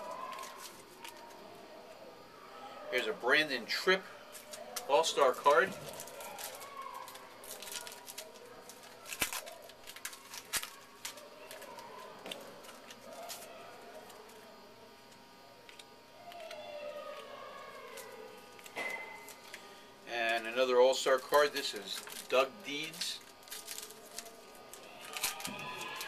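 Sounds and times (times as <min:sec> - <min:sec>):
faint background talk: 0:00.0 - 0:26.0.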